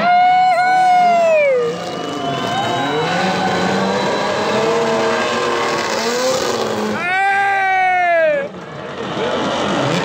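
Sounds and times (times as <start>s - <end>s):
car engines revving: 0.0s - 10.0s
steady rush of noise: 0.0s - 10.0s.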